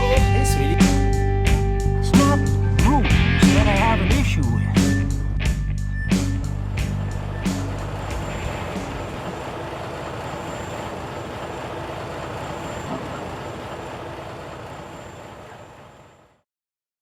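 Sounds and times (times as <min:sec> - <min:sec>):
road noise: 0:00.0 - 0:16.4
truck engine: 0:00.0 - 0:16.4.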